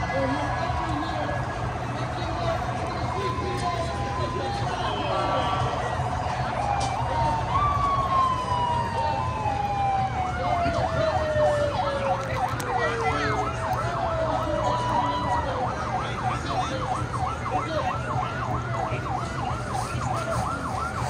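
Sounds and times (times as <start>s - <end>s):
siren yelping: 0.0s - 21.0s.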